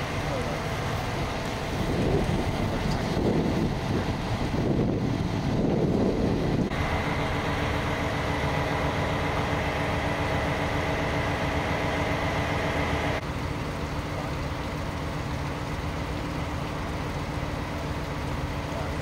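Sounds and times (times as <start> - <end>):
constant whine: 0.0 - 19.0
vehicle engine idling: 0.0 - 19.0.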